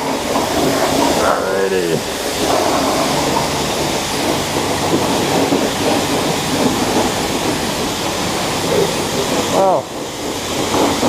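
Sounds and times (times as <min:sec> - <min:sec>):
pressurised spray hissing: 0:00.0 - 0:11.0.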